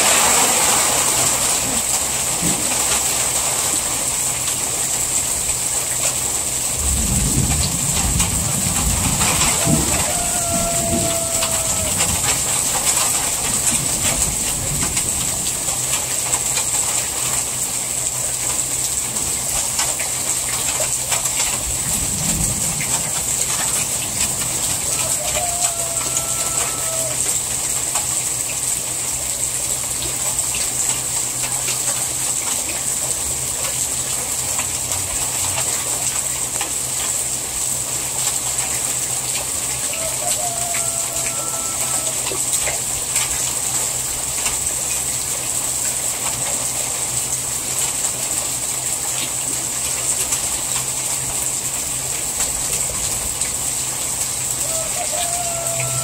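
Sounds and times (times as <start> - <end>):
heavy rain falling: 0.0 - 56.0
water pouring onto a tarp: 0.0 - 56.0.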